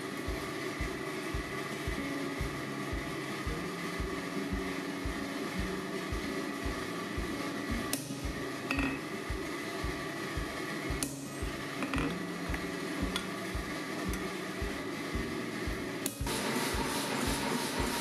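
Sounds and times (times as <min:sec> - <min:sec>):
workshop machinery pulsing hum: 0:00.0 - 0:18.0.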